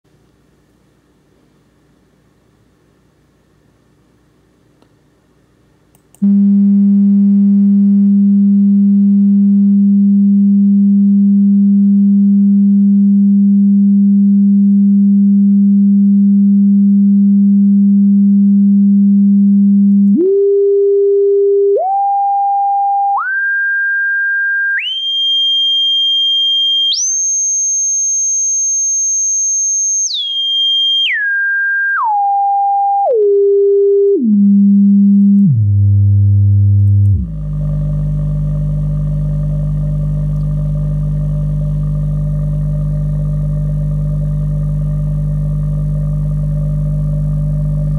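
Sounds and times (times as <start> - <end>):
sine test tone stepping in pitch: 6.1 - 47.9.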